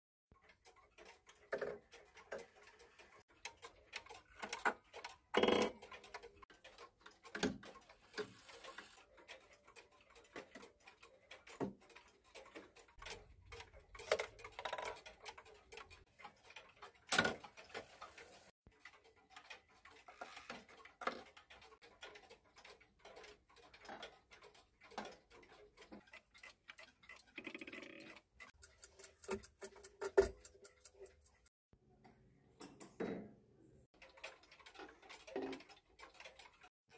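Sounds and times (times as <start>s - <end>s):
clock hands clicking and rattling: 0.3s - 31.5s, 33.9s - 36.9s
pendulum clocks ticking: 0.3s - 33.0s, 33.8s - 36.9s.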